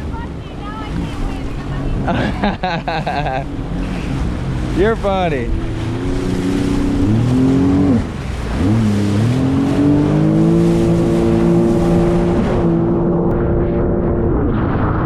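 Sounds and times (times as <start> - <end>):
jet ski engine revving: 0.0 - 13.6.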